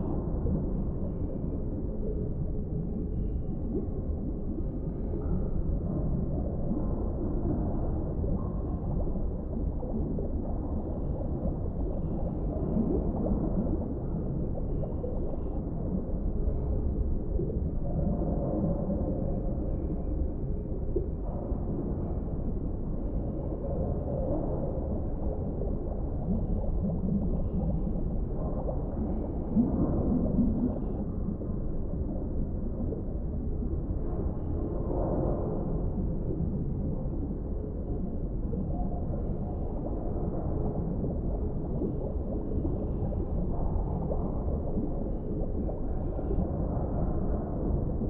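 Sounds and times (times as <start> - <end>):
low wavering gurgles: 0.0 - 48.0
muffled underwater rumble: 0.0 - 48.0.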